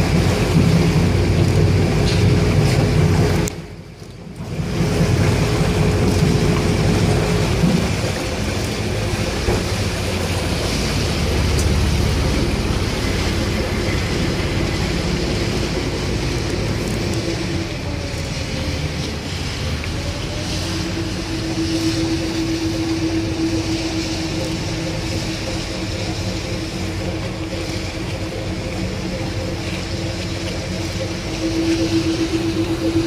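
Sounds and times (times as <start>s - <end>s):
boat engine droning: 0.0s - 33.0s
rushing noise: 0.0s - 33.0s.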